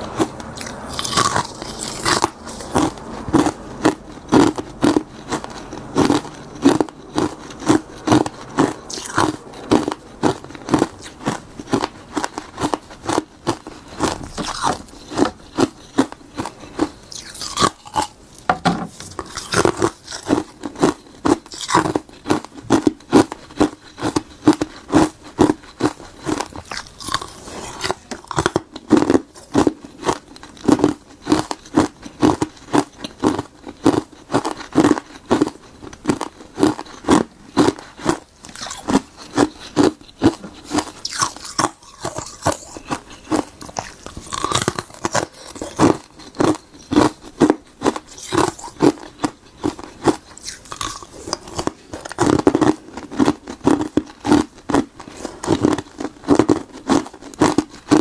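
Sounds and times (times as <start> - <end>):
crunching ice between teeth: 0.0 - 58.0.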